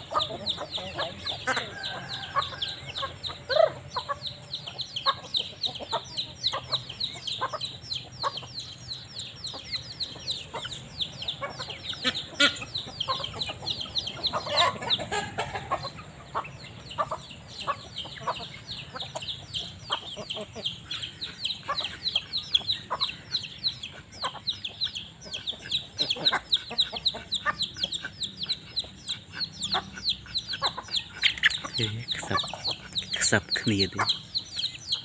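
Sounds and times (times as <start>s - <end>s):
chickens clucking: 0.0s - 35.0s
chicks peeping: 0.0s - 35.0s.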